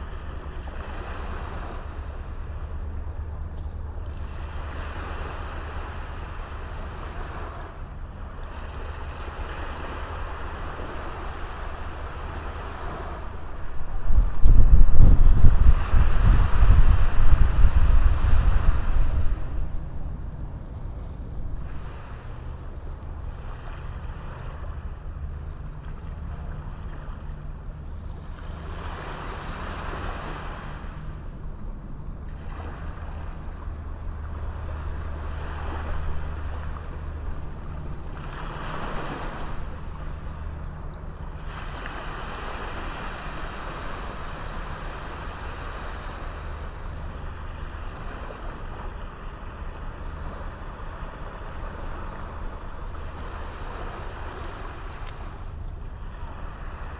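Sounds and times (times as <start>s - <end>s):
sea waves breaking on beach: 0.0s - 56.9s
wind rumble on microphone: 0.0s - 56.9s.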